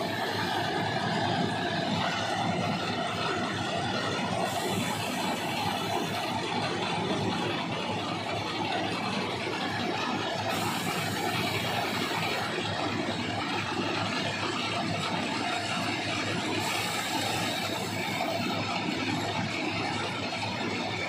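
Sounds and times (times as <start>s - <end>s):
heavy machine churning stone: 0.0s - 21.0s.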